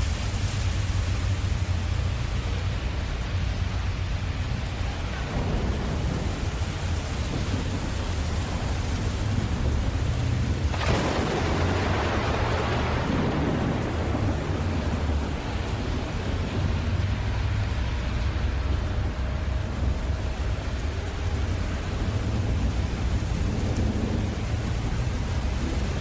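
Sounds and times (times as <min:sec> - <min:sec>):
low rumble of thunder: 0:00.0 - 0:26.0
steady rain: 0:00.0 - 0:26.0.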